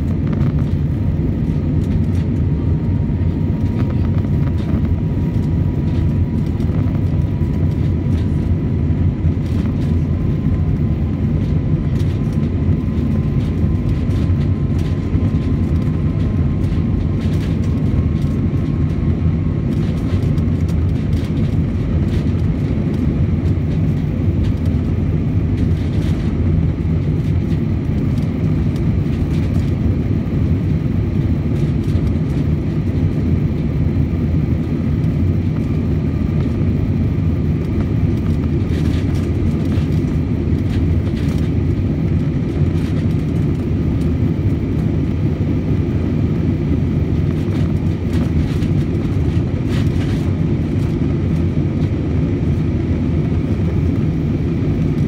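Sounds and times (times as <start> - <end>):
faint steady whine: 0.0 - 55.0
jet engine cabin rumble: 0.0 - 55.0.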